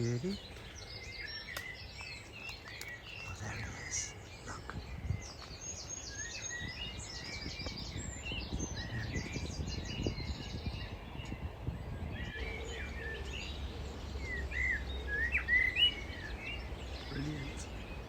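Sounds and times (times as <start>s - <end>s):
blackbird singing: 0.0s - 18.0s
wind rumble on microphone: 0.0s - 18.0s.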